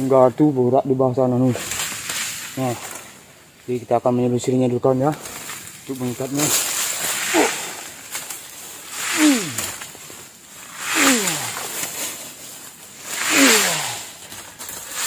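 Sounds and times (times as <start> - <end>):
vine rustling through undergrowth: 0.0 - 15.0.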